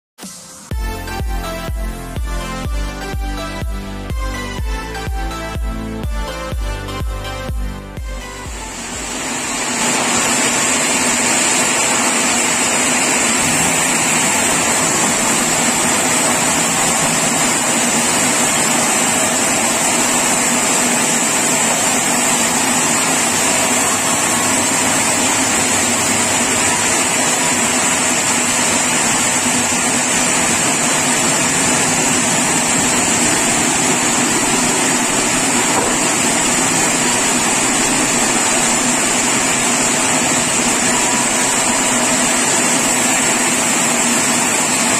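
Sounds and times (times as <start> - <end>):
low machine hum: 0.7 - 44.9
sawmill saw whining: 0.8 - 44.9.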